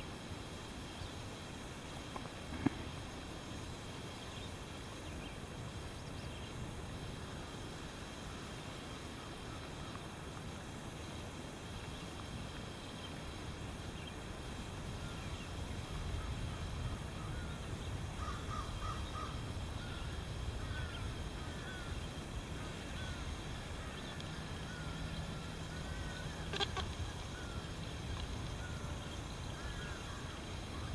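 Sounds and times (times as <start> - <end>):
low background rush: 0.0 - 30.9.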